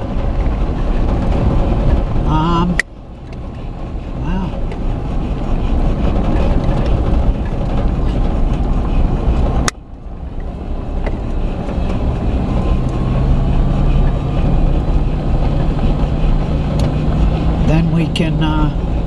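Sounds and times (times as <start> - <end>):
engine hum: 0.0 - 19.0
vehicle road and engine rumble: 0.0 - 19.0.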